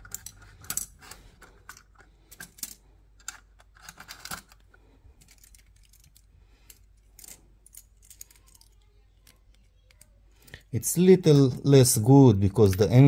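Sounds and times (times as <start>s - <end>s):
plastic parts clicking and rattling: 0.0s - 10.7s.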